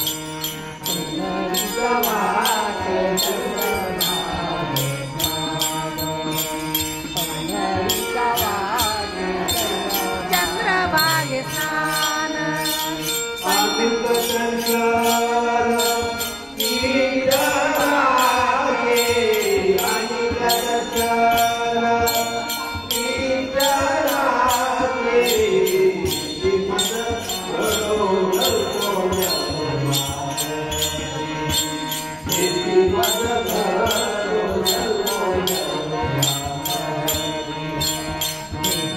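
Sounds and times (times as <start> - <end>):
man singing devotional song: 0.0 - 38.9
steady jingling beat: 0.0 - 38.9.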